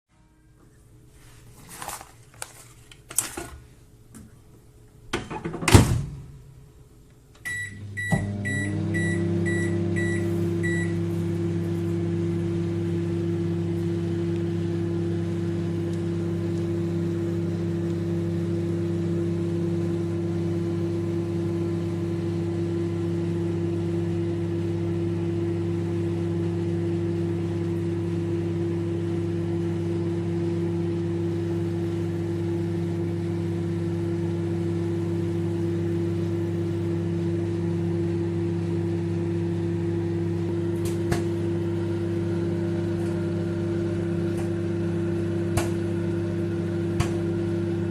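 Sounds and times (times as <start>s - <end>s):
microwave oven humming: 1.9s - 47.9s.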